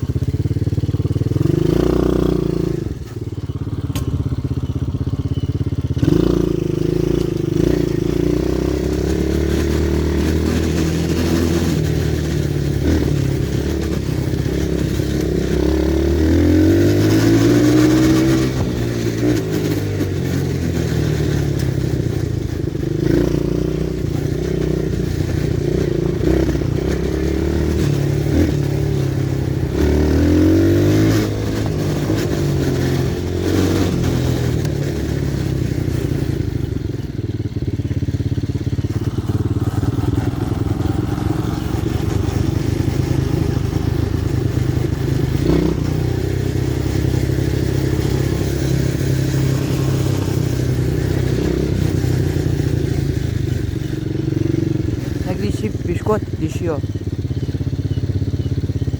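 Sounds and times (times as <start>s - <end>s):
motorbike engine running: 0.0s - 58.9s.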